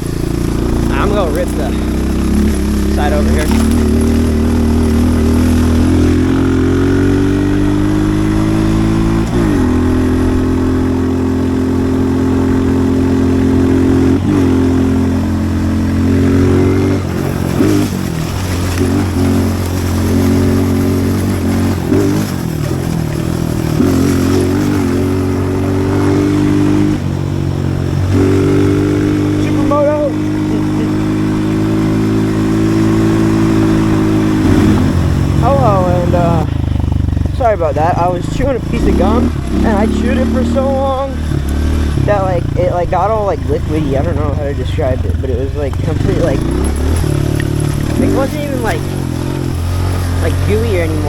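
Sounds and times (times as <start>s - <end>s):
pit bike engine revving: 0.0s - 51.0s.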